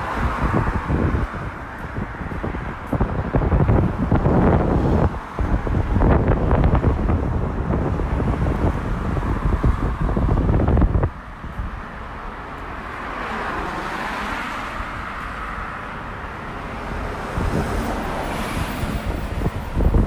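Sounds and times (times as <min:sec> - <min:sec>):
car passing: 0:00.0 - 0:20.0
wind buffeting microphone: 0:00.0 - 0:20.0.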